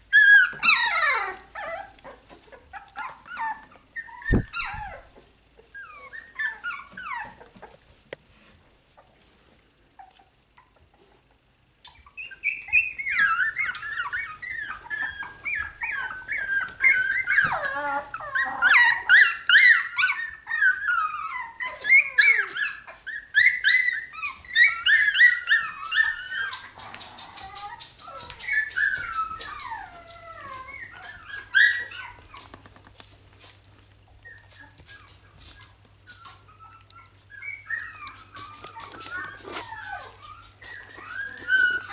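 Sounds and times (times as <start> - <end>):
puppies squealing and whining: 0.0 - 7.9, 10.0 - 32.7, 33.4 - 41.9.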